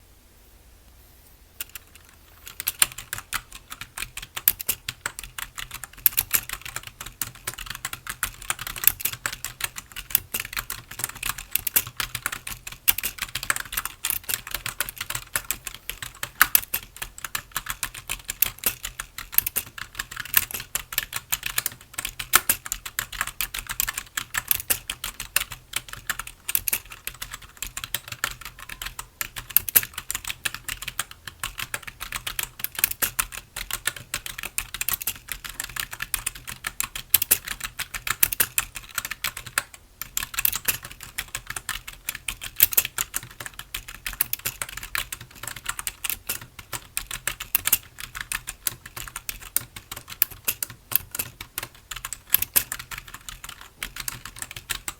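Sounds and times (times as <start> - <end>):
fast typing on keyboard: 1.6 - 54.9.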